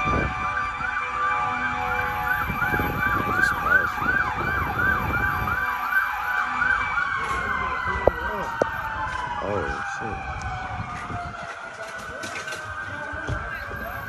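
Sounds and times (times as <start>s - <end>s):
siren yelping: 0.0s - 14.0s.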